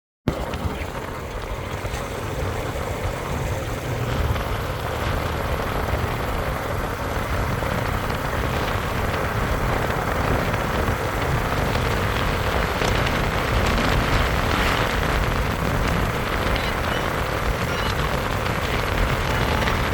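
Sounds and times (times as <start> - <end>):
motorcycle engine drone: 0.3 - 19.9
road and wind noise: 0.3 - 19.9.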